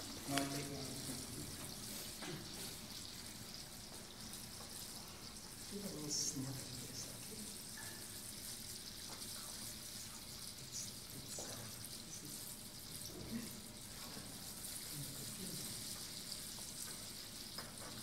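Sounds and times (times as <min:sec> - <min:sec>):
faint trickle of water: 0:00.0 - 0:18.0.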